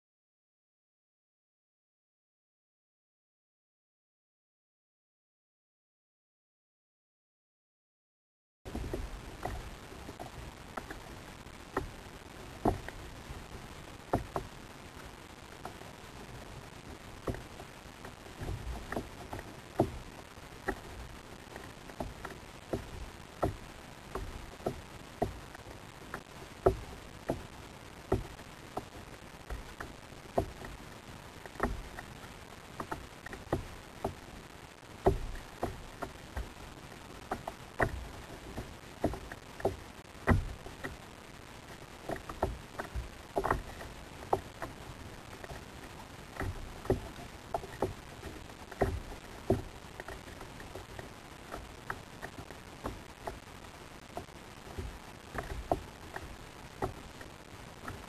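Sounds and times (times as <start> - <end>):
water knocking against kayak hull: 8.7 - 34.3, 35.0 - 41.0, 41.6 - 58.0
faint steady hiss: 8.7 - 58.0.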